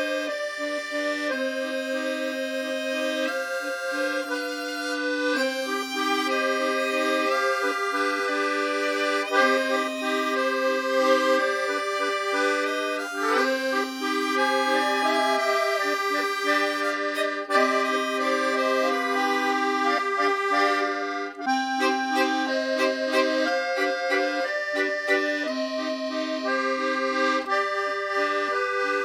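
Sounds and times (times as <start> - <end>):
accordion music: 0.0 - 29.0.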